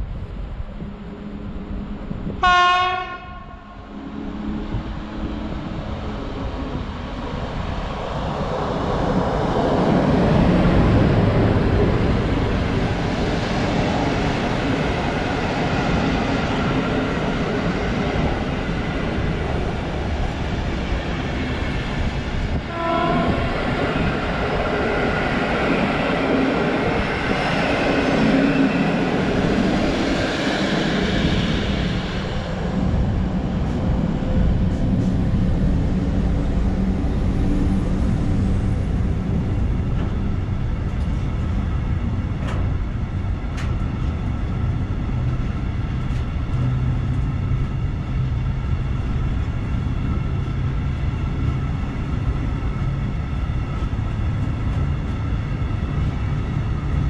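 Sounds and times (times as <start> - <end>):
freight train rumbling past: 0.0 - 57.0
passenger train passing: 0.0 - 57.0.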